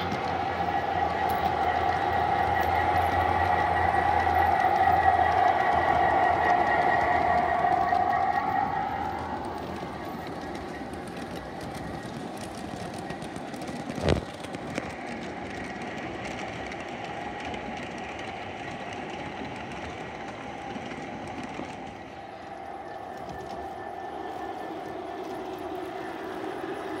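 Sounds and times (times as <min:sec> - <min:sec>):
model train wheels clattering on rail: 0:00.0 - 0:27.0.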